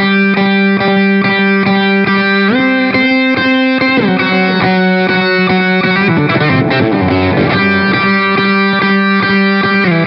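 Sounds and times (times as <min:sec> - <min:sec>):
electric guitar solo: 0:00.0 - 0:10.0.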